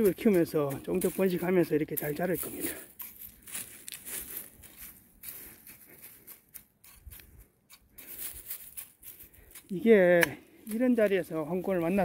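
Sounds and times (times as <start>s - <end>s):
hand hoe scraping soil: 0.0s - 12.0s.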